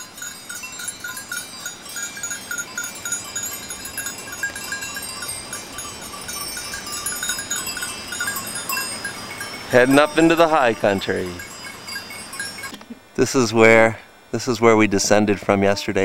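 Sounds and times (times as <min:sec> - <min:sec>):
goat bells clinking: 0:00.0 - 0:12.9.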